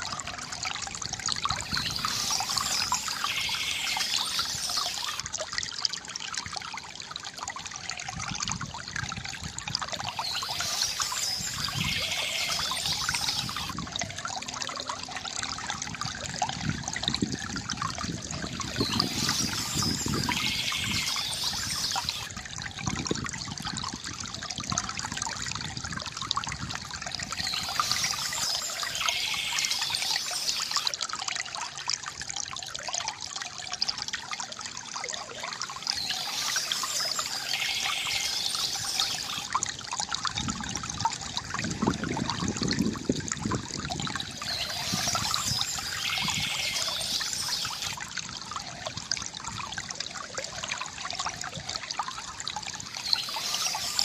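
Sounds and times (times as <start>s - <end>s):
stream water trickling and splashing: 0.0s - 54.0s.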